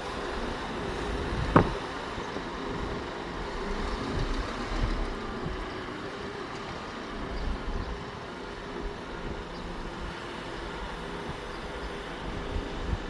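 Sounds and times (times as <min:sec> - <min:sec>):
bus diesel engine running: 0:00.0 - 0:13.0
road noise: 0:00.0 - 0:13.0.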